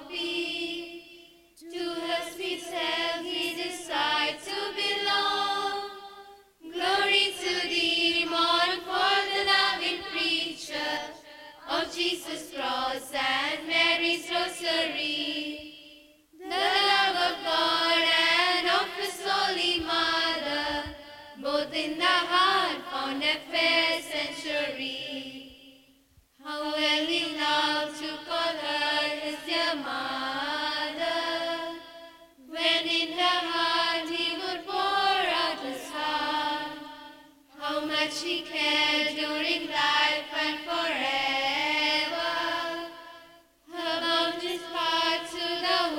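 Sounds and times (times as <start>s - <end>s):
mixed choir singing: 0.0s - 45.9s.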